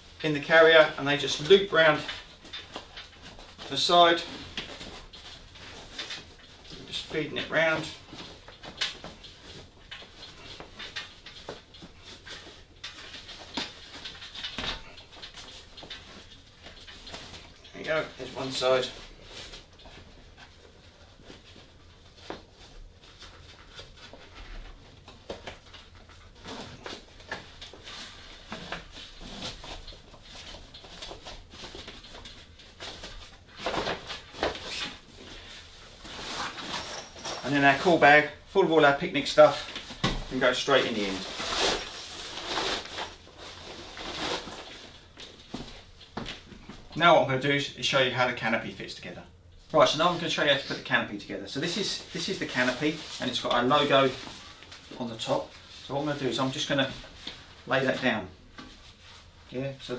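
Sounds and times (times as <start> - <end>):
nylon fabric rustling: 0.0 - 46.7, 49.7 - 59.9.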